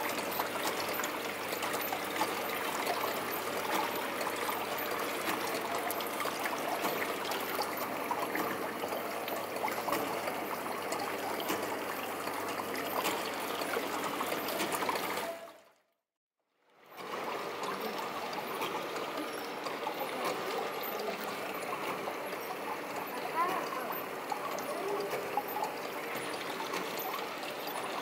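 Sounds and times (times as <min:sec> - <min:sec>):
water trickling and splashing: 0:00.0 - 0:15.8, 0:16.7 - 0:28.0.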